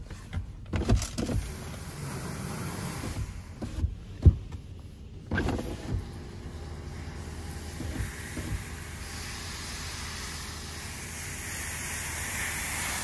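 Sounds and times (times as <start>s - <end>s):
car wash spray hissing: 1.3s - 4.3s, 4.9s - 13.0s.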